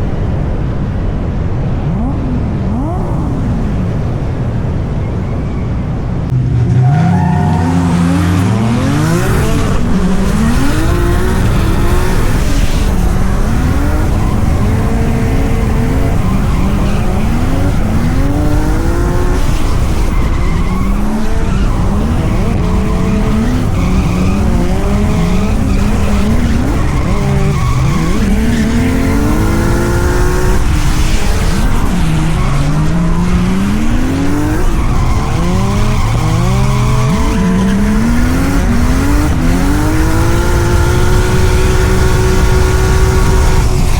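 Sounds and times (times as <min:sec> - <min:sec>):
tyres skidding: 0:00.0 - 0:43.9
car engine revving hard: 0:06.3 - 0:43.9.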